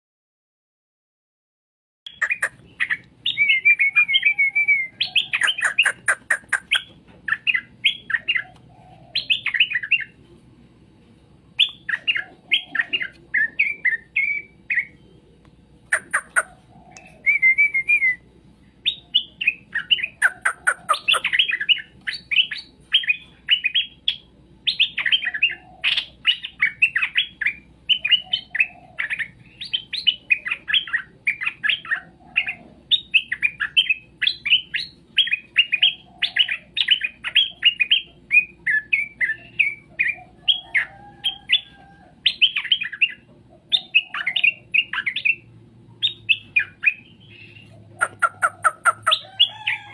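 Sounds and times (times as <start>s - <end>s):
bird whistled song: 2.1s - 10.2s, 11.6s - 15.3s, 15.9s - 49.9s.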